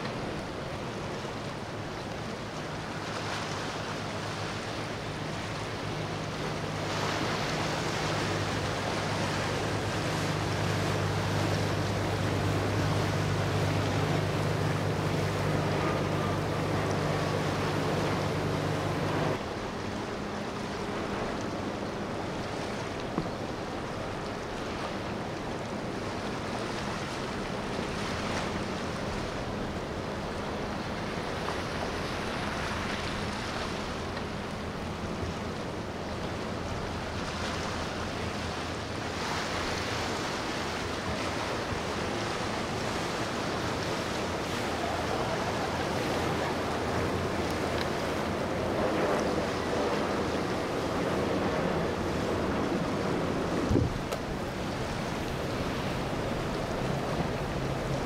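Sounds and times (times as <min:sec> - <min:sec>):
low engine hum: 0:00.0 - 0:58.0
water rushing from boat wake: 0:00.0 - 0:58.0.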